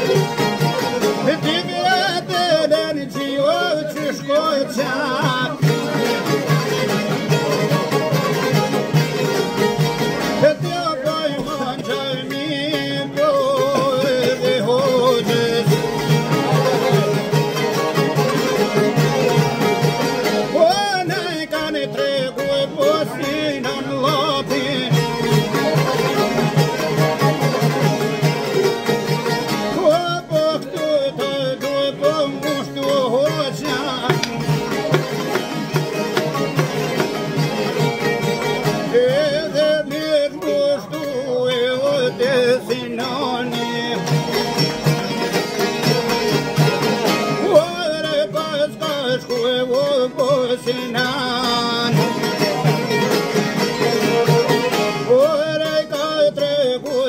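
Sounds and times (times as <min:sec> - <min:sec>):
man singing: 0:00.0 - 0:57.0
plucked lute playing: 0:00.0 - 0:57.0.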